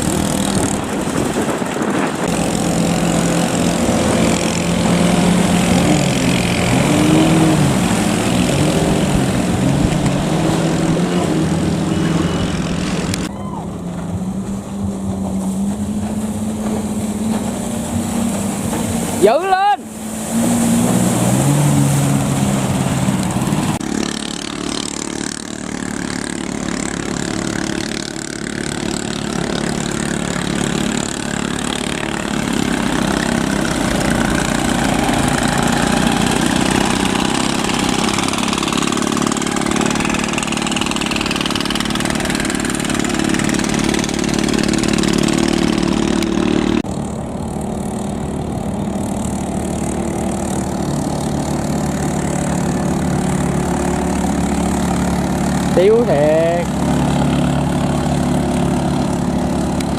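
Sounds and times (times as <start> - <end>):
boat engines running flat out: 0.0 - 59.9.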